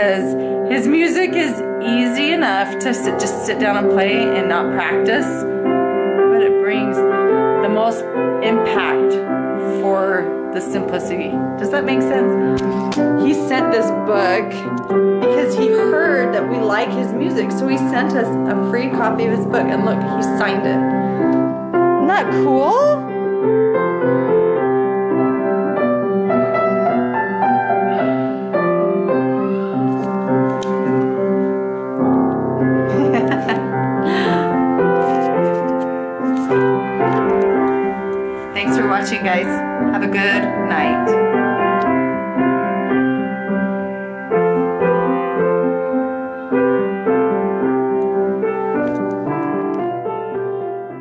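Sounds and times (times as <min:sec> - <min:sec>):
upright piano playing sacred piece: 0:00.0 - 0:51.0.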